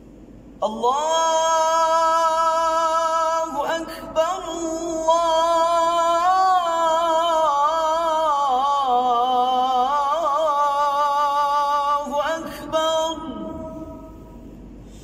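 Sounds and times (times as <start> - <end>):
man chanting call to prayer: 0.6 - 14.4.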